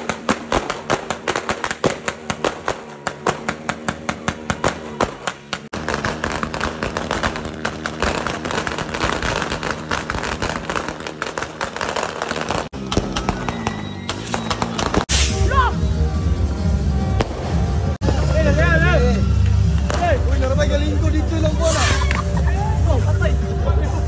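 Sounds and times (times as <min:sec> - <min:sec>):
crackle of fireworks: 0:00.0 - 0:15.6, 0:17.0 - 0:22.4
firecrackers banging: 0:00.0 - 0:15.6, 0:17.0 - 0:22.5.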